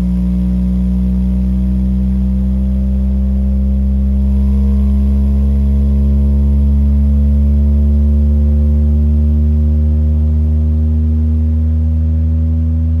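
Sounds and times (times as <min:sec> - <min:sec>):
deep bass test tone: 0:00.0 - 0:13.0.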